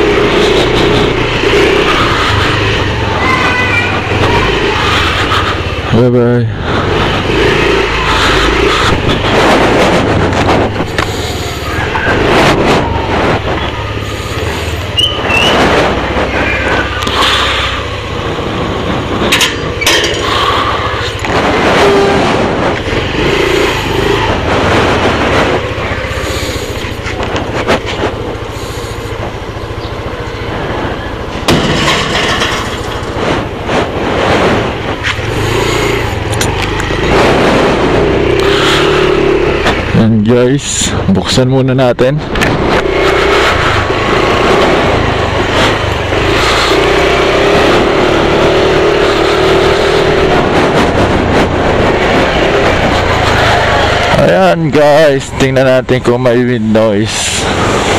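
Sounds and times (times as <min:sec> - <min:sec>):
motorcycle engine running: 0:00.0 - 0:57.9
wind rumbling on microphone: 0:00.0 - 0:57.9.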